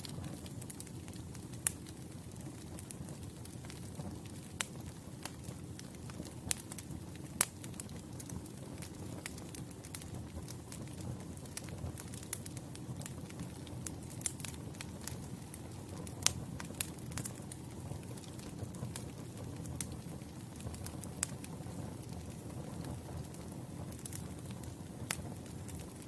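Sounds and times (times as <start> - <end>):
crackles and pops from logs: 0.0 - 26.0
low rumble of flames: 0.0 - 26.0.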